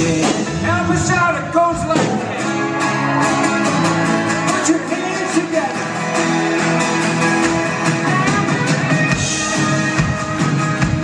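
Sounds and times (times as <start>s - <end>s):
drums: 0.0s - 11.0s
electric guitar: 0.0s - 11.0s
strummed acoustic guitars: 0.0s - 11.0s.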